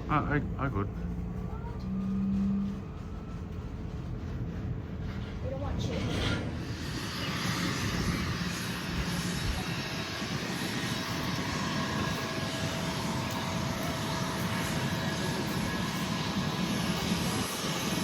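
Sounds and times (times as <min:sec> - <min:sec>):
airplane engine rushing: 0:00.0 - 0:18.0.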